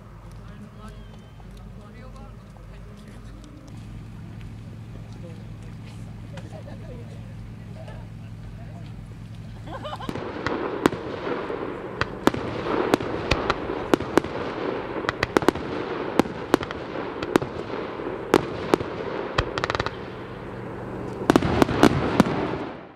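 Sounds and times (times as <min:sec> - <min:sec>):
background noise: 0:00.0 - 0:22.9
firework crackles: 0:00.0 - 0:22.9
fireworks bursting with bangs: 0:00.0 - 0:22.9.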